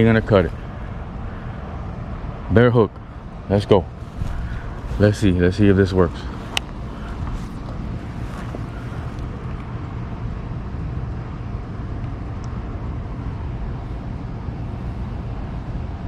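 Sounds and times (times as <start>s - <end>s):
low outdoor background rumble: 0.0s - 16.0s.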